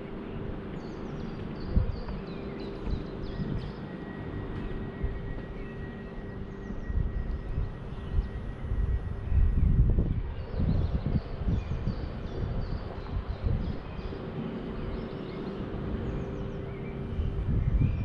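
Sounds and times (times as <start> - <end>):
faint steady hum: 0.0 - 18.0
small birds chirping: 0.0 - 18.0
wind buffeting microphone: 0.0 - 18.0.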